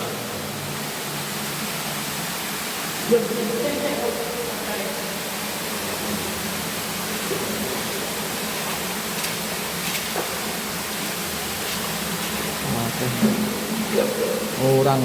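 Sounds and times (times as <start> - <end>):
steady broadband hiss: 0.0 - 15.0.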